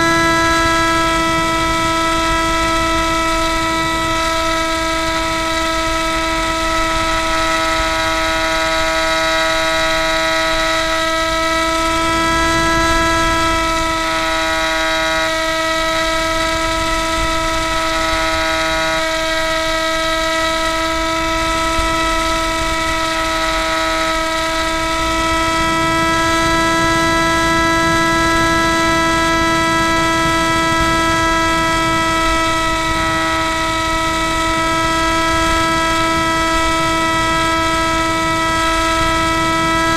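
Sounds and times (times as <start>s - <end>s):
electric motor and propeller whining: 0.0s - 39.9s
wind rush: 0.0s - 39.9s.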